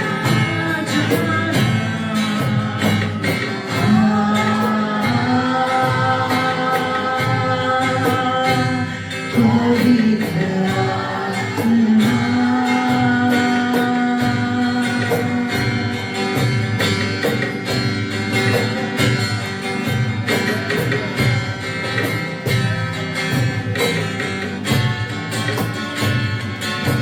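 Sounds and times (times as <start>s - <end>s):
worship band music: 0.0s - 27.0s.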